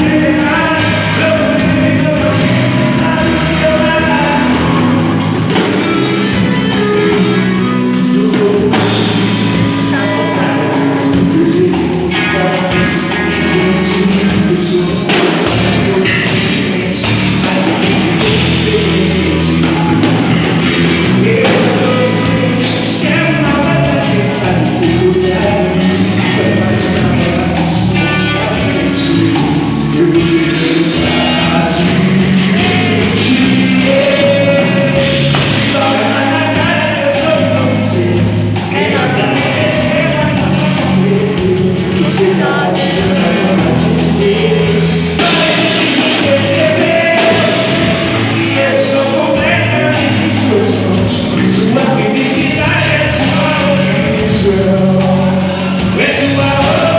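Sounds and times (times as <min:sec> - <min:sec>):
band playing live music: 0:00.0 - 0:56.9
person singing: 0:00.0 - 0:56.9.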